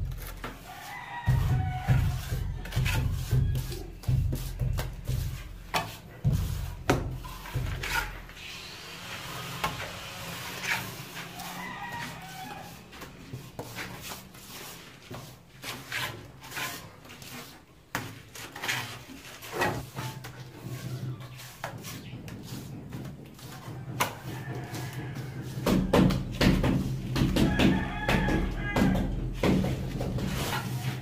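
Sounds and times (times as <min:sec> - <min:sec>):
trowel scraping mortar: 0:00.0 - 0:28.8, 0:29.4 - 0:31.0
trowel slapping mortar: 0:00.0 - 0:31.0.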